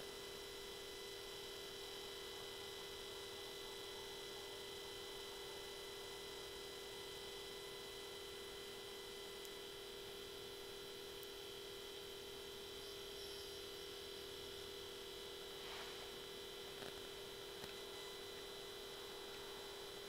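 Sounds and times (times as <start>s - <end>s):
faint electronic whine: 0.0s - 20.0s.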